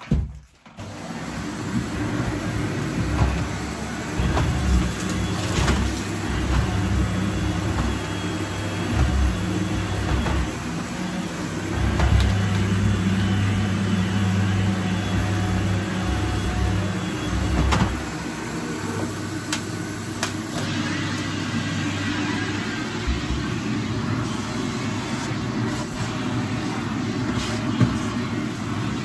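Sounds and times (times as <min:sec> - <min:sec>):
vacuum cleaner motor humming: 0:00.8 - 0:29.0.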